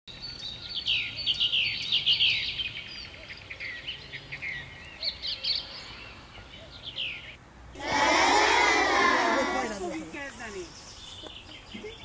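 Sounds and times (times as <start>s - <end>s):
songbirds chirping: 0.1s - 12.0s.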